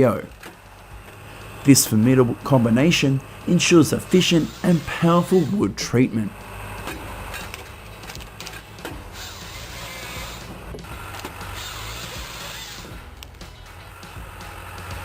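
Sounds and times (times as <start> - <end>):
engine hum: 0.0 - 15.0
hydraulics whirring: 0.0 - 15.0.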